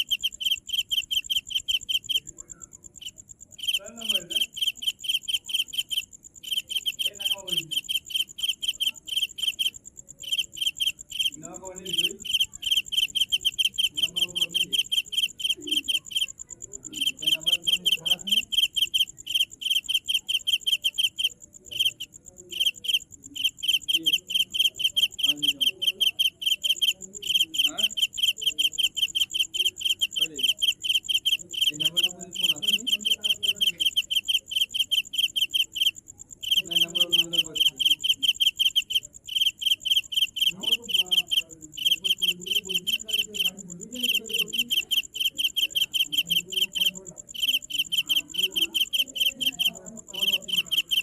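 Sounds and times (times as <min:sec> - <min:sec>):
insect chirping: 0:00.0 - 0:51.0.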